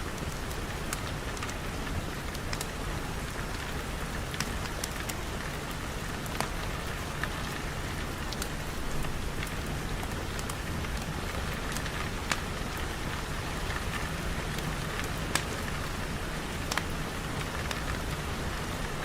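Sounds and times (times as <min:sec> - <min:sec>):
raindrops ticking on a surface: 0:00.0 - 0:19.0
steady rain hiss: 0:00.0 - 0:19.0.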